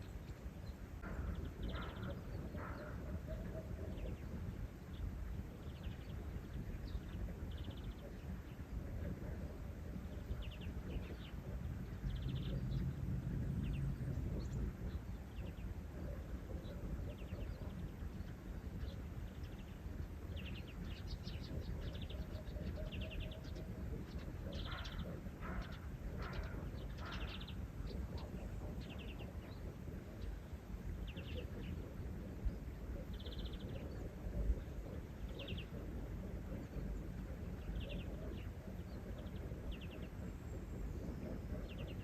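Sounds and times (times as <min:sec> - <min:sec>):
low outdoor rumble: 0:00.0 - 0:42.0
small birds chirping: 0:00.0 - 0:42.0.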